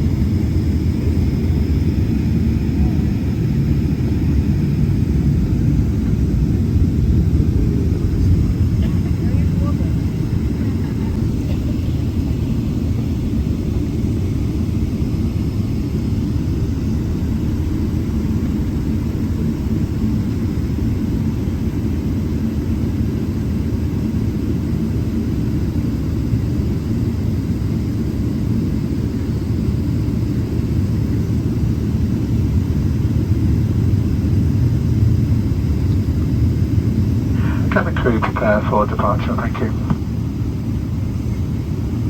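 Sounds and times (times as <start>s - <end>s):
airplane cabin rumble: 0.0s - 42.0s.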